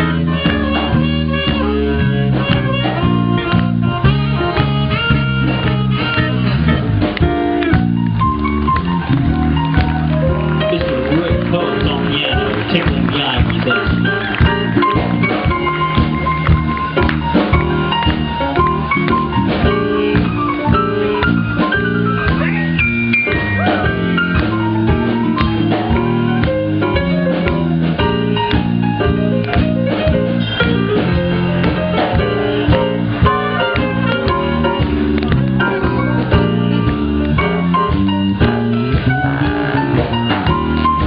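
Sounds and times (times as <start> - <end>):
drum kit keeping time: 0.0 - 41.0
live swing blues band: 0.0 - 41.0
quick melodic lead runs: 0.0 - 41.0.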